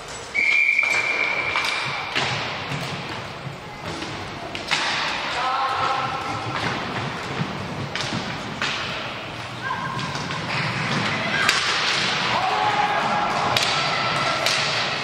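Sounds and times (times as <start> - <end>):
hockey sticks cracking: 0.0 - 15.0
skates rolling on hard floor: 0.0 - 15.0
steady hall noise: 0.0 - 15.0.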